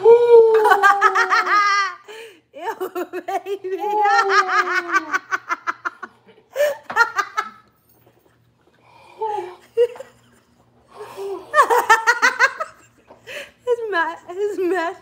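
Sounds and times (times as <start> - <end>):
woman laughing: 0.4 - 7.6, 9.2 - 10.6, 11.2 - 15.0.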